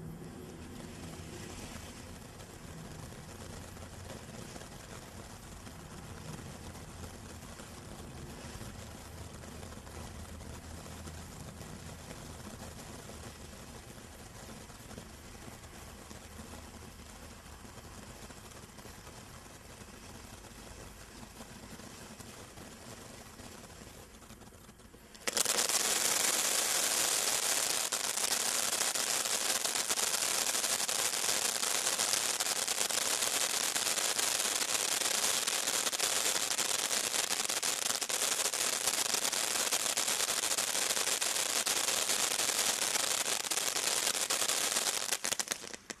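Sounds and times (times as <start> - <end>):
firework fountain crackling: 0.0 - 46.0.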